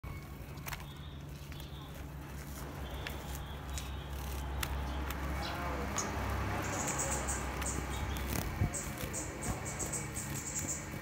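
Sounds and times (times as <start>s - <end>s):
birds clicking and tapping: 0.0s - 11.0s
steady low hum: 0.0s - 11.0s.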